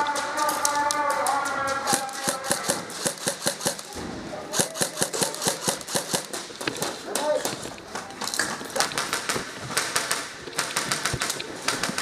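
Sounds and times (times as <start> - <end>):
airsoft guns firing: 0.0 - 7.6, 8.8 - 12.0.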